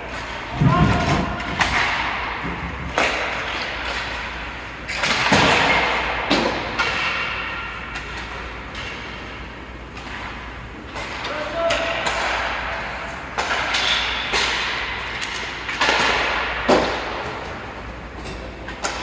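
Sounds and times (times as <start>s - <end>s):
puck and sticks knocking boards: 0.0s - 19.0s.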